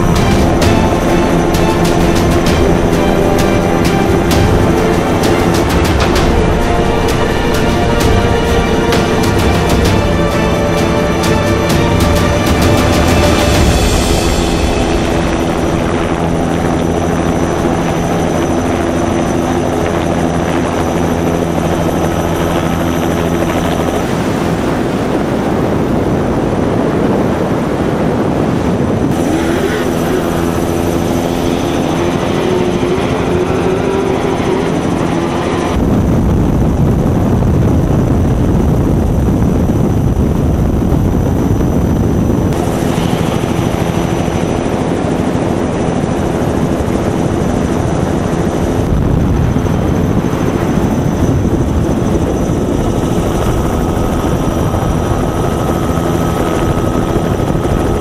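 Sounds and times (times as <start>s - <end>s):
truck engine running hard: 0.0s - 25.9s, 28.8s - 58.0s
helicopter rotor and engine: 0.0s - 58.0s.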